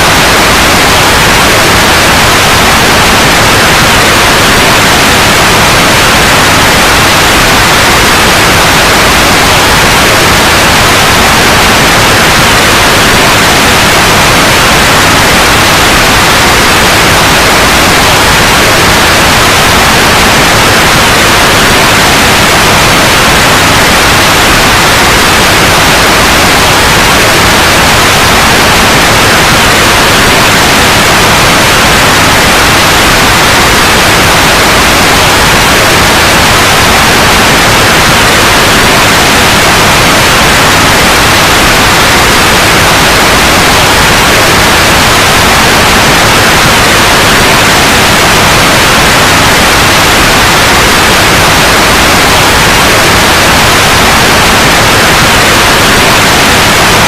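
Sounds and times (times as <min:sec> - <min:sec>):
loud white noise hiss: 0:00.0 - 0:57.0.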